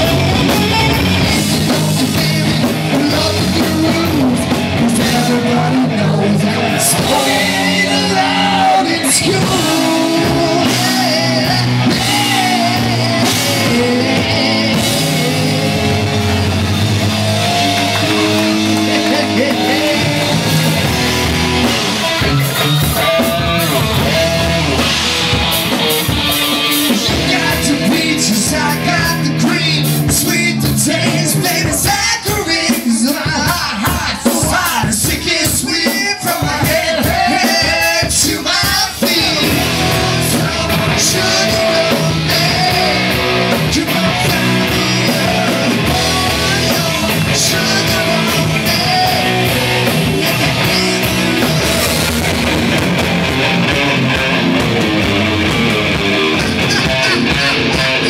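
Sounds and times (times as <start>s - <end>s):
man singing: 0.0s - 21.4s, 22.0s - 25.1s, 26.2s - 52.8s, 56.3s - 58.0s
drum kit: 0.0s - 58.0s
rock band playing: 0.0s - 58.0s.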